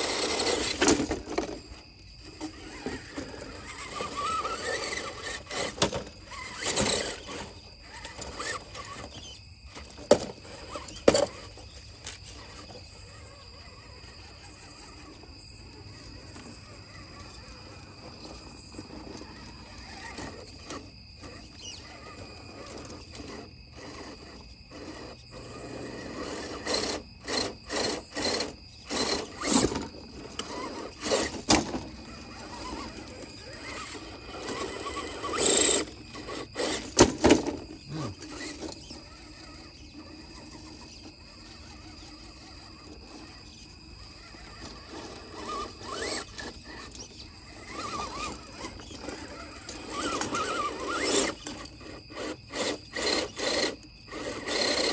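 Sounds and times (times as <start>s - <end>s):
electric drivetrain whirring: 0.0s - 54.9s.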